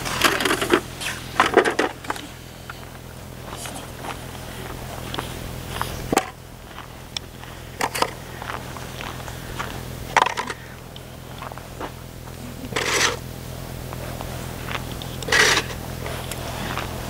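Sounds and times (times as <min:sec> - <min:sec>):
footsteps crunching on snow: 0:00.0 - 0:17.0.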